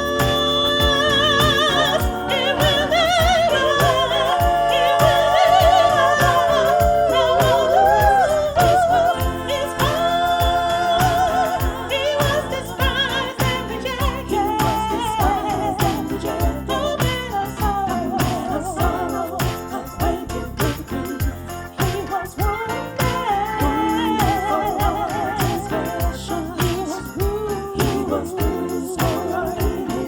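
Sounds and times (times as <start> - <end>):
band with drum beat and bass: 0.0 - 30.0
person singing with vibrato: 0.0 - 30.0.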